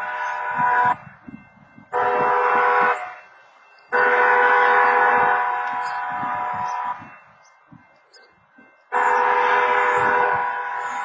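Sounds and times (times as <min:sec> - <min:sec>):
railroad crossing horn blasts: 0:00.0 - 0:07.4, 0:08.8 - 0:11.0.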